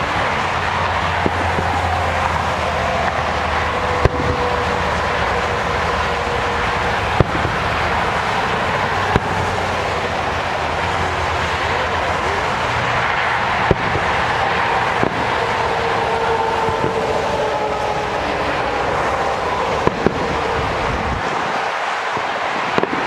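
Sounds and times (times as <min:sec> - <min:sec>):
fireworks cracking: 0:00.0 - 0:23.0
steady rushing background noise: 0:00.0 - 0:23.0.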